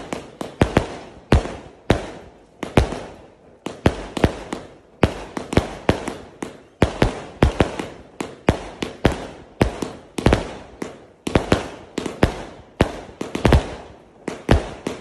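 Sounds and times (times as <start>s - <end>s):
firework cake bangs: 0.0s - 15.0s.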